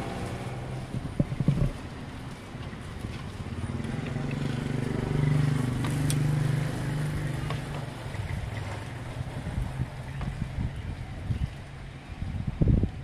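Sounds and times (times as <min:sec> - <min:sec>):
passing vehicle engine hum: 0:00.0 - 0:11.2.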